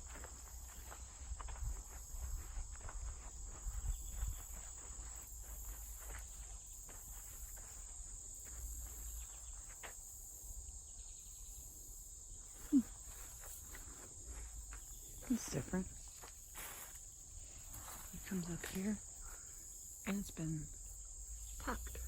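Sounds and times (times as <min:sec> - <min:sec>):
footsteps on a woodland trail: 0:00.0 - 0:10.8, 0:12.4 - 0:19.8
crickets and insects droning: 0:00.0 - 0:22.0.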